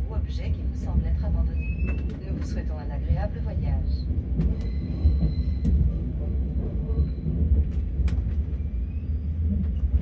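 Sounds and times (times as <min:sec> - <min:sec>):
train cabin rumble: 0:00.0 - 0:10.0.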